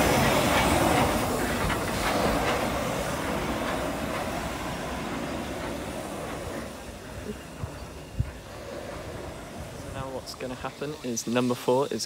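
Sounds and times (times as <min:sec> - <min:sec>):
running gear clicking on rails: 0:00.0 - 0:12.0
steam hissing: 0:00.0 - 0:12.0.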